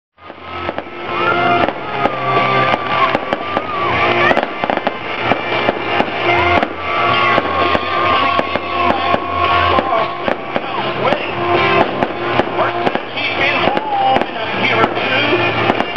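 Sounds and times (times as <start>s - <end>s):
fireworks popping and crackling: 0.2s - 15.9s
music with melody over bass: 0.2s - 15.9s.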